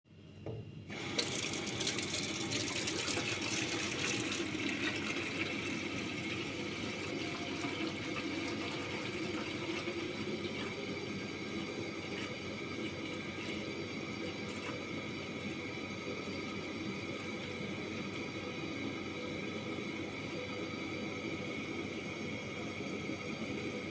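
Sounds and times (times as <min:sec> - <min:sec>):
water running: 0:00.9 - 0:20.2.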